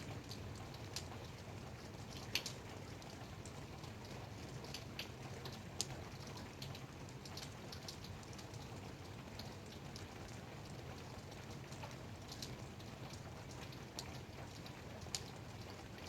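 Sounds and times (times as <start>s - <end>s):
raindrops ticking on hard surface: 0.0s - 16.0s.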